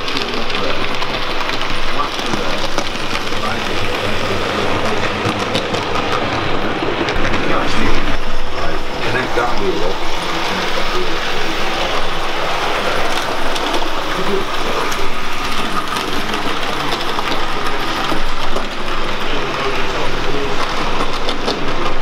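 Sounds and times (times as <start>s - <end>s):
steady background noise: 0.0s - 22.0s
train wheels clicking on track: 0.0s - 22.0s.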